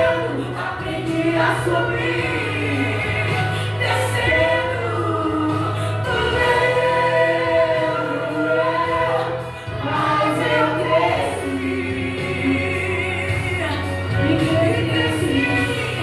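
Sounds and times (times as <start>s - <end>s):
choir singing gospel song: 0.0s - 16.0s.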